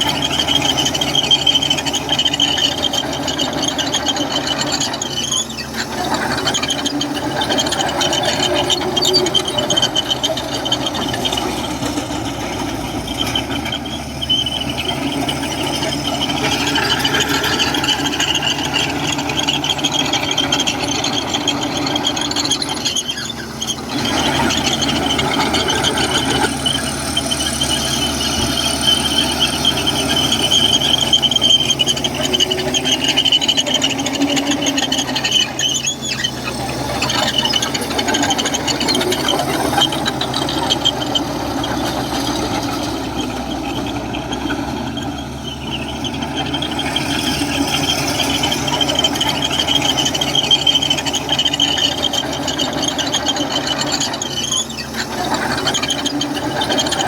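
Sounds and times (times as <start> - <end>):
bulldozer diesel engine running: 0.0 - 57.0
steel crawler tracks squealing: 0.0 - 57.0.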